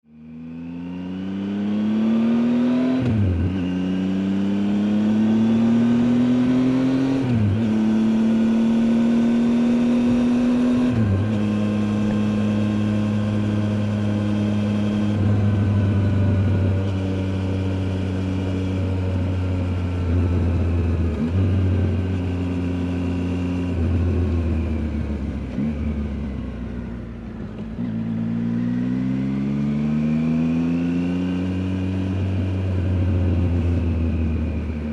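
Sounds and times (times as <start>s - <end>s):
motorcycle engine revving through gears: 0.1s - 34.9s.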